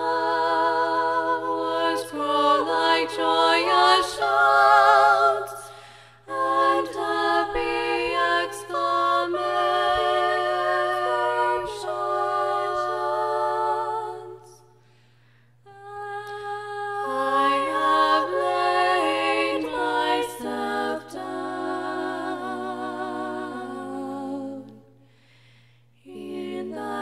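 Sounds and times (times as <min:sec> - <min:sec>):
a cappella voices singing chords: 0:00.0 - 0:27.0.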